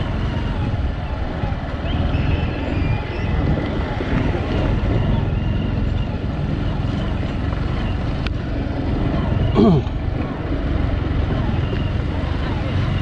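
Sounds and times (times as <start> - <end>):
motorcycle engine drone: 0.0 - 13.0
road rumble: 0.0 - 13.0.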